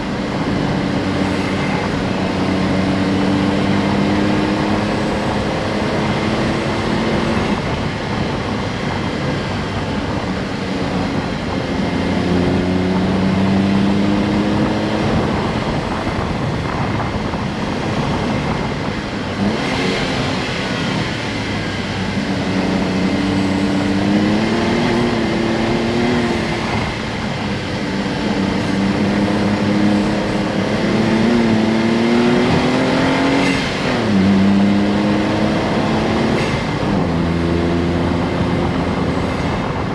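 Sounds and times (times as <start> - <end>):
car engine revving: 0.0 - 39.9
road noise: 0.0 - 39.9.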